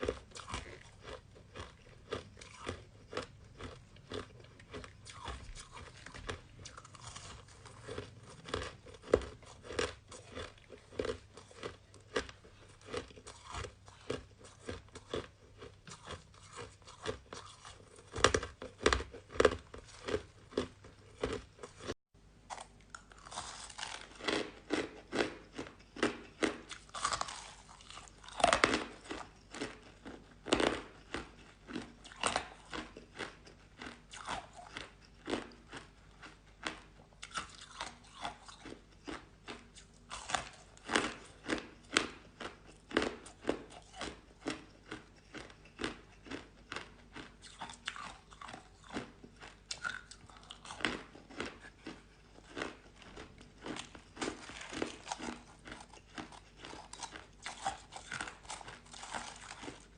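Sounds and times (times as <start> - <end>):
crunchy chewing of shaved ice: 0.0 - 59.9.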